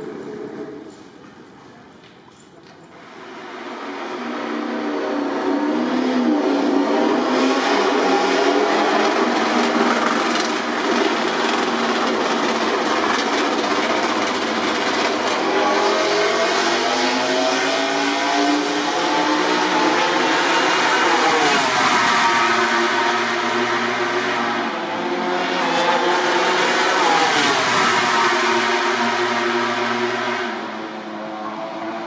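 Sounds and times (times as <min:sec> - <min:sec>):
racing motorcycle engines revving: 0:03.0 - 0:32.0.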